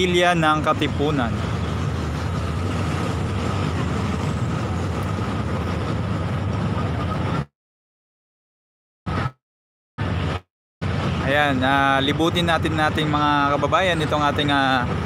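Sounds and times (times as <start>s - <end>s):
city background rumble: 0.0s - 7.5s, 10.0s - 15.0s.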